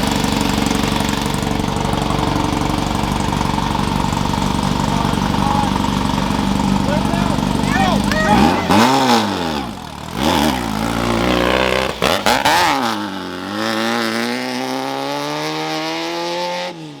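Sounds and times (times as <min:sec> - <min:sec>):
race vehicle engine revving: 0:00.0 - 0:17.0.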